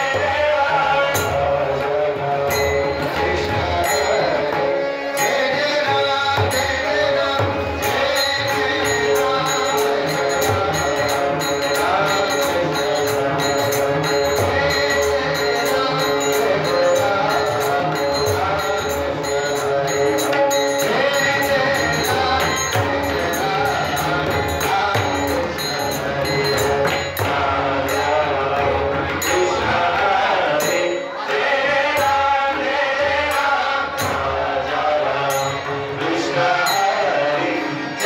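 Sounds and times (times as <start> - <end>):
jingling hand percussion: 0.0 - 38.0.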